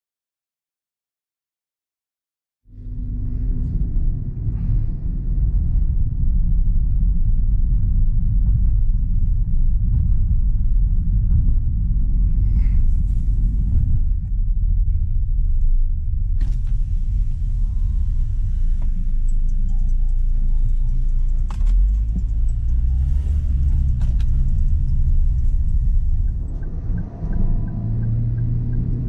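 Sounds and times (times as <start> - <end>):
car engine and road noise: 2.7 - 29.0.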